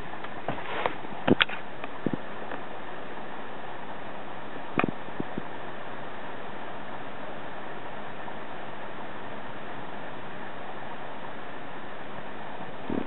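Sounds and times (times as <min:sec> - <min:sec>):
computer fans whirring: 0:00.0 - 0:13.0.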